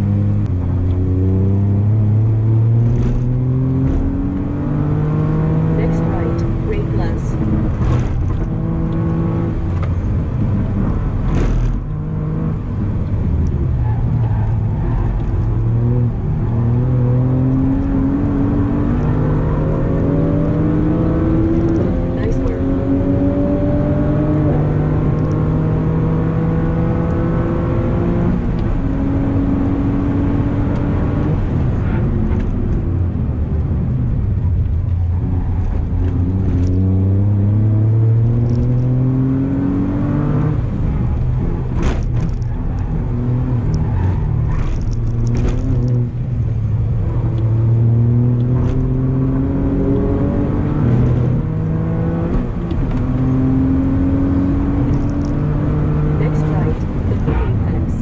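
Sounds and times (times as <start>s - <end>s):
car engine revving: 0.0s - 58.0s
tyre and road noise: 0.0s - 58.0s.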